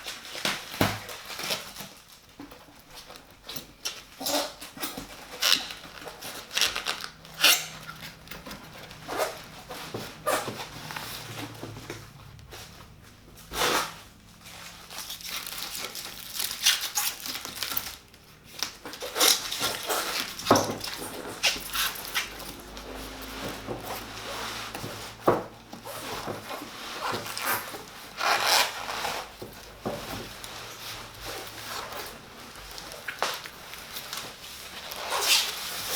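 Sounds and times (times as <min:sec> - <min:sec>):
packaging rustling and crinkling: 0:00.0 - 0:35.9.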